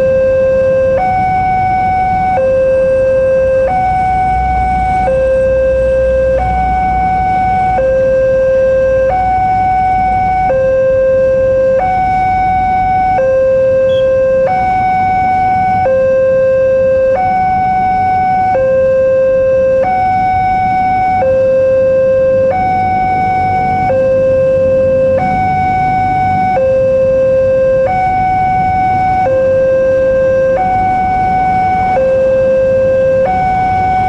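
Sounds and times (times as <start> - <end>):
level crossing warning alarm: 0.0 - 34.0.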